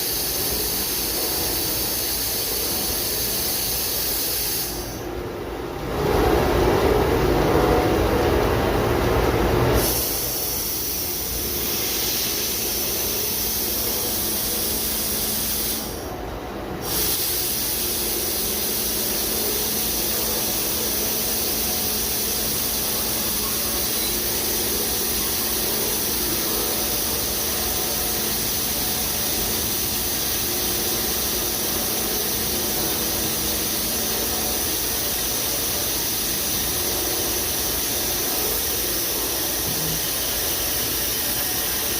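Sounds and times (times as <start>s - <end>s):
machine hiss: 0.0s - 5.2s, 9.8s - 16.2s, 16.8s - 41.9s.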